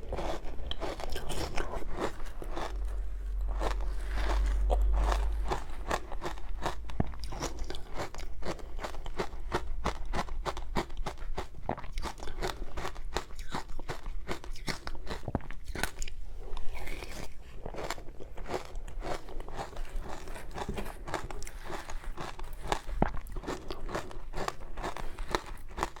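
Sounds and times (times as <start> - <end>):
crunchy chewing of shaved ice: 0.0 - 26.0.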